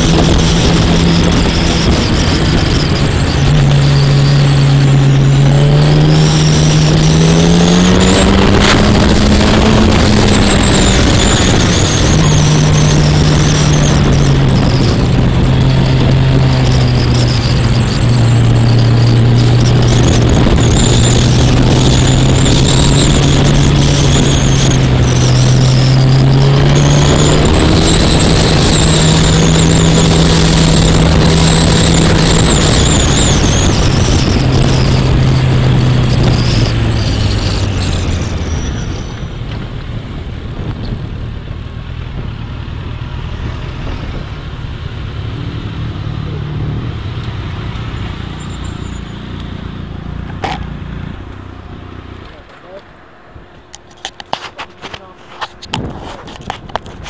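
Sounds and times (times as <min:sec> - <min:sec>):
wind rush on microphone: 0:00.0 - 0:48.8, 0:53.3 - 0:57.0
motorcycle engine running: 0:00.0 - 0:57.0.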